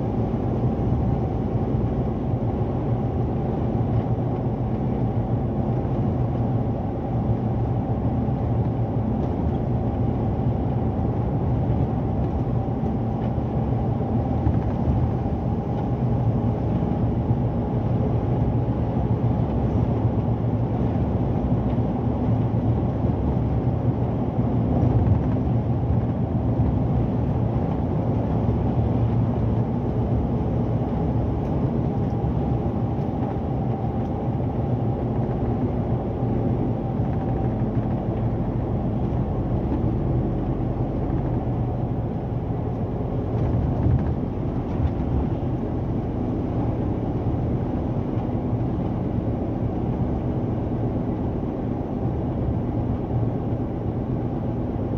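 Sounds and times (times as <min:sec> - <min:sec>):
road and wind noise: 0:00.0 - 0:54.9
truck engine drone from inside cab: 0:00.0 - 0:54.9.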